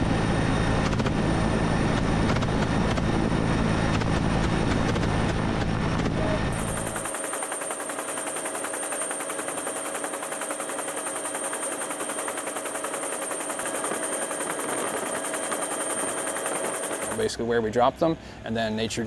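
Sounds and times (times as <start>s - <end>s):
helicopter rotor blades chopping: 0.0s - 17.5s.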